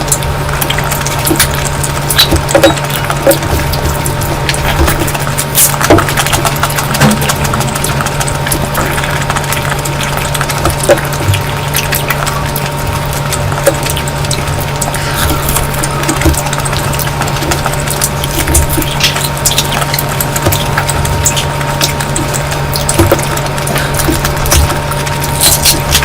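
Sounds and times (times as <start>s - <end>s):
steady low hum: 0.0s - 26.0s
wet chewing and smacking: 0.0s - 26.0s.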